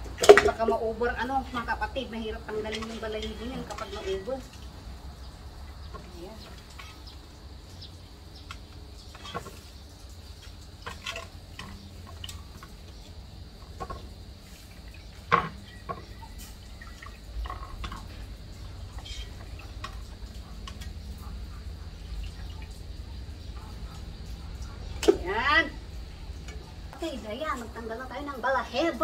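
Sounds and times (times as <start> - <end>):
small splashes and clicks: 0.0 - 0.8, 2.4 - 27.8
water sloshing in metal basin: 0.0 - 29.0.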